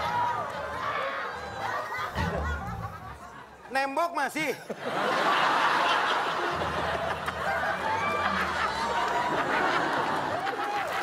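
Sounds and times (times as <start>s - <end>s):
audience laughing: 0.0s - 3.7s, 4.4s - 11.0s.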